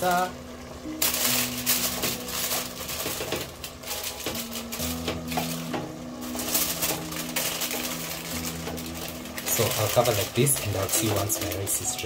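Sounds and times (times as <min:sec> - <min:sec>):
aluminium foil crinkling: 0:00.8 - 0:12.0.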